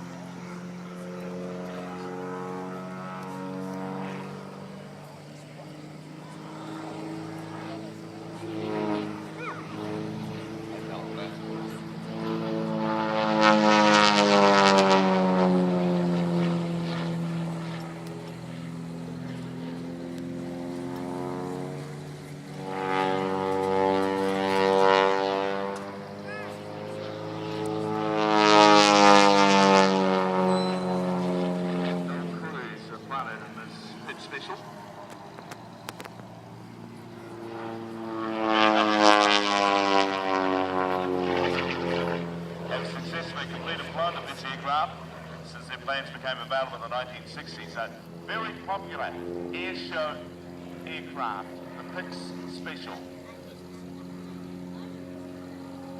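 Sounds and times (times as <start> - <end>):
propeller plane flying overhead: 0.0 - 55.9.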